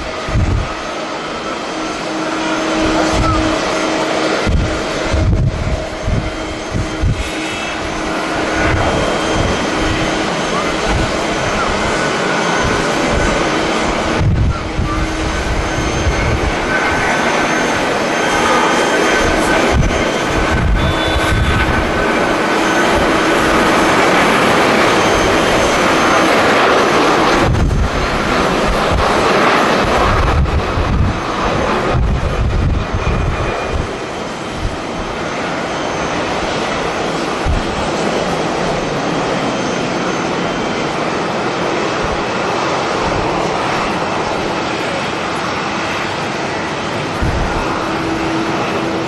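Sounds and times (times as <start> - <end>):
jet engines of passing airliner: 0.0 - 49.0
wind rumbling on microphone: 0.0 - 49.0.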